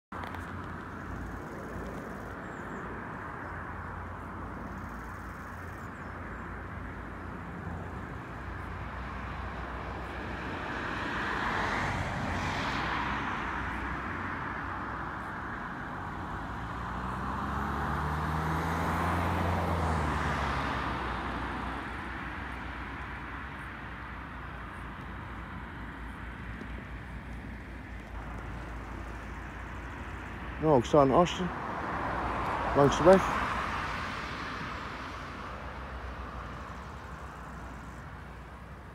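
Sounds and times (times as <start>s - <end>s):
low propeller hum: 0.1s - 17.5s, 18.9s - 38.9s
turboprop aircraft flying over: 0.4s - 38.9s.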